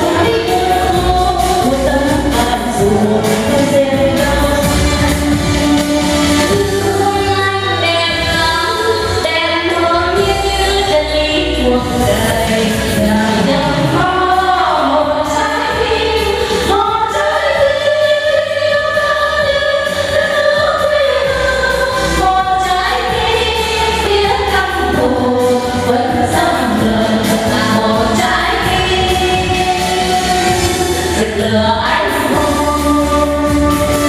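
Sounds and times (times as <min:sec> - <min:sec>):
musical accompaniment: 0:00.0 - 0:34.0
person singing: 0:00.0 - 0:34.0.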